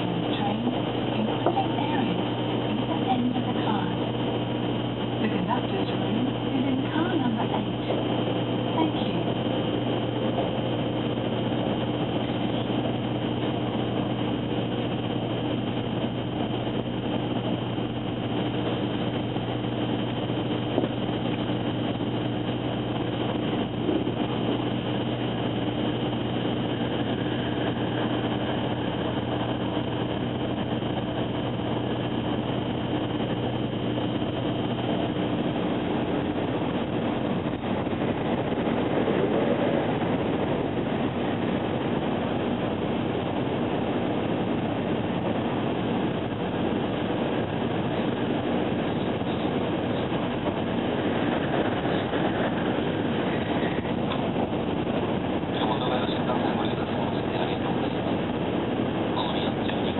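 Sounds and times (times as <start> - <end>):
train cabin rumble and rush: 0.0 - 4.3, 5.1 - 59.9
constant hum tones: 0.0 - 59.9.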